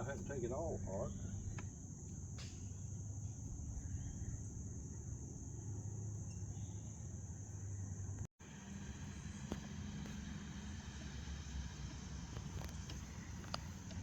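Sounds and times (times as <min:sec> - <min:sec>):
crickets trilling: 0:00.0 - 0:14.0
low steady hum: 0:00.0 - 0:14.0.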